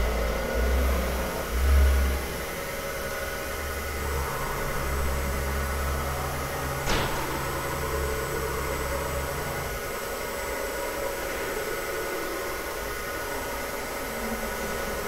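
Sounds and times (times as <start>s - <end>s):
higher machine hum: 0.0s - 15.0s.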